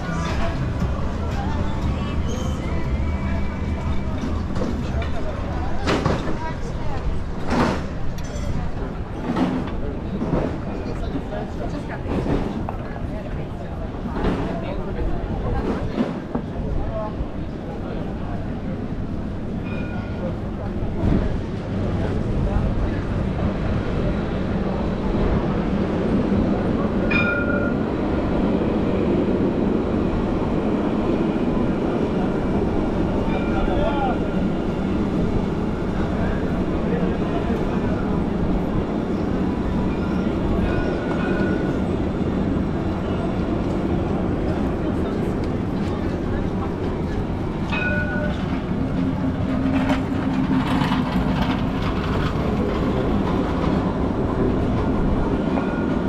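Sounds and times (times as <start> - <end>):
low rumbling street noise: 0.0 - 56.0.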